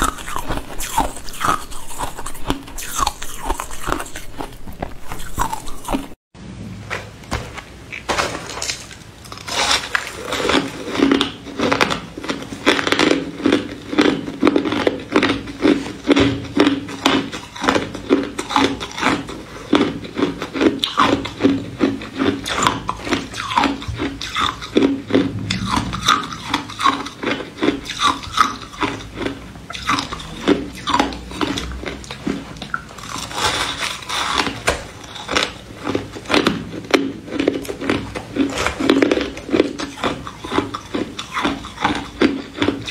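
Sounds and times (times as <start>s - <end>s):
person chewing ice: 0.0s - 6.2s, 8.7s - 42.9s.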